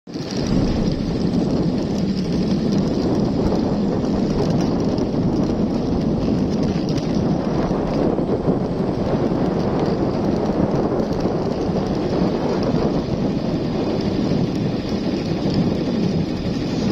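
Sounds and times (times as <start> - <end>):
wind buffeting microphone: 0.1 - 16.9.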